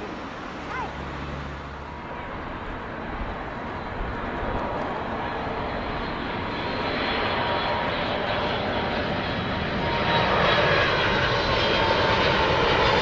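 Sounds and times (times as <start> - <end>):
jet engine rush with whine: 0.0 - 13.0.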